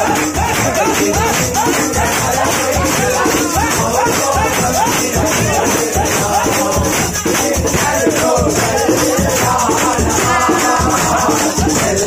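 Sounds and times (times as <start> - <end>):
drum strokes: 0.0 - 12.0
hand claps: 0.0 - 12.0
men singing: 0.0 - 12.0.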